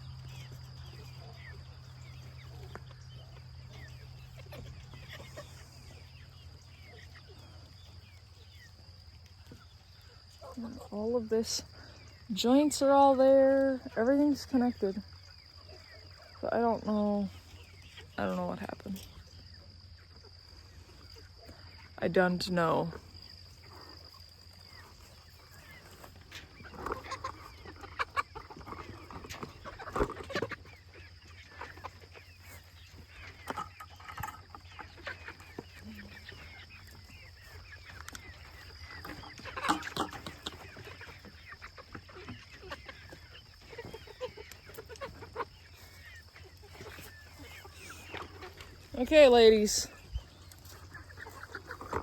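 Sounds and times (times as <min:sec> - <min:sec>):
young chickens clucking: 0:00.0 - 0:52.0.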